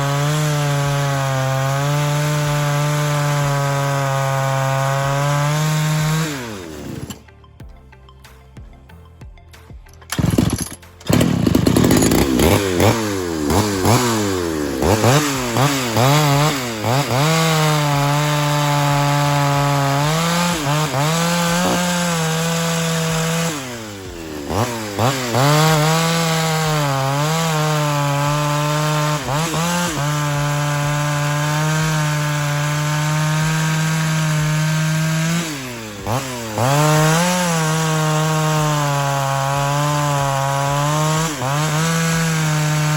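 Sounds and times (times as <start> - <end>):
chainsaw revving and cutting wood: 0.0 - 7.5, 9.8 - 42.9.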